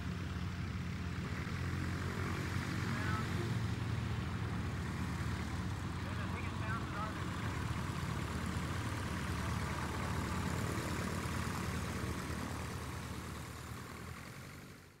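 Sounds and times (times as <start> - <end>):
light aircraft propeller engine: 0.0 - 15.0.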